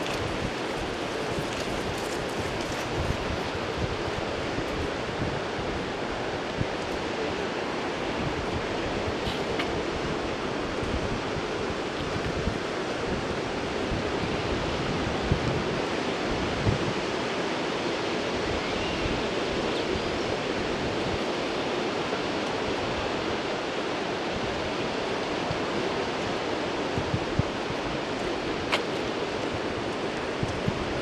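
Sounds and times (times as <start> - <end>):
sea surf: 0.0 - 31.0
wind: 0.0 - 31.0
wind buffeting microphone: 0.0 - 31.0.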